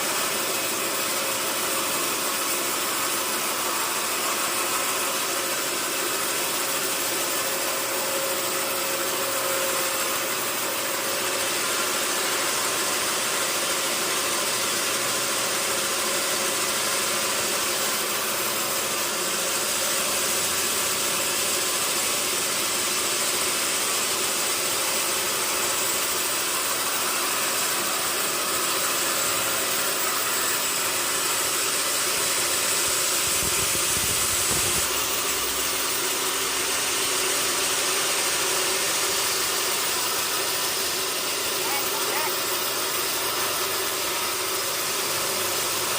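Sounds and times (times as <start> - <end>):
sawmill machinery hum and hiss: 0.0 - 45.9.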